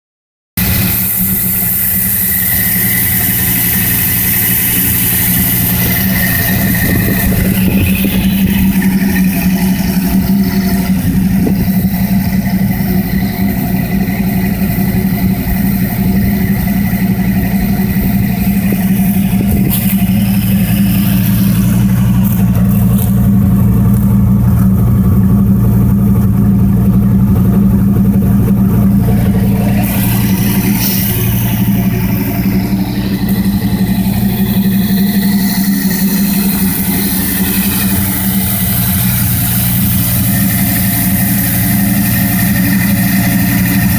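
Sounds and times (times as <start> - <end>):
car engine running steadily: 0.5 - 43.9.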